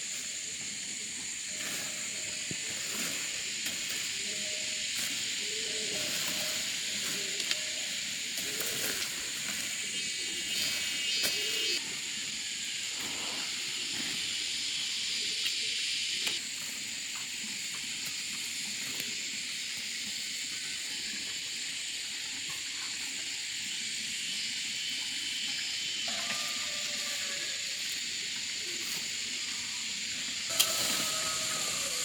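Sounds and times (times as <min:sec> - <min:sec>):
high-pitched hiss: 0:00.0 - 0:32.0.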